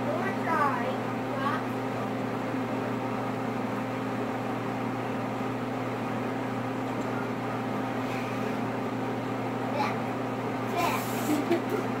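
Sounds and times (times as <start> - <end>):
appliance electrical hum: 0.0 - 12.0.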